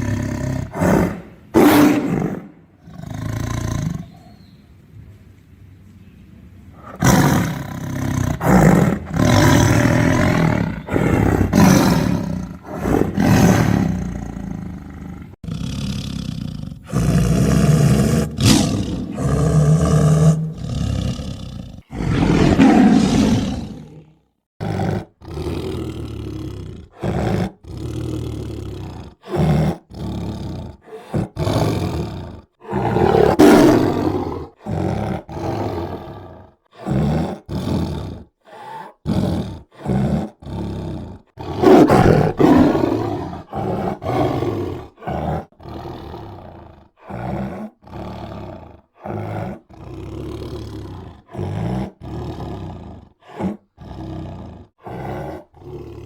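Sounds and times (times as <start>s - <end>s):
tiger roaring and growling: 0.0s - 4.2s, 6.8s - 56.0s.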